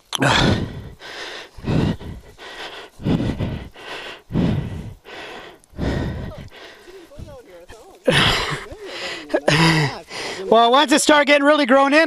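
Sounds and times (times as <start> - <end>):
person breathing hard: 0.2 - 7.4, 8.0 - 10.6.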